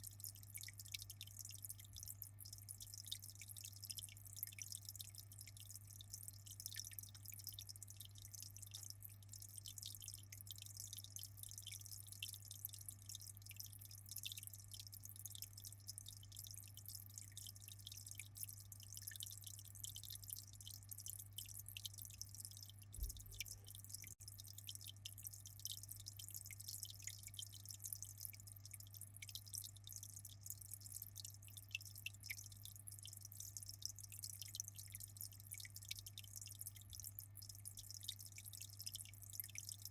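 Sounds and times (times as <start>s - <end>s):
aquarium water trickling and splashing: 0.0s - 39.9s.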